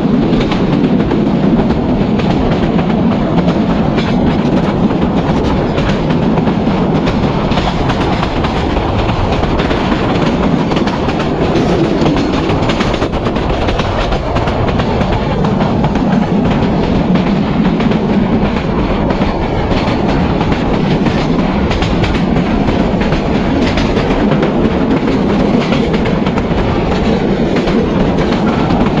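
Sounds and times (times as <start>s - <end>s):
clickety-clack of rail joints: 0.0s - 29.0s
wheels rumbling on rail: 0.0s - 29.0s.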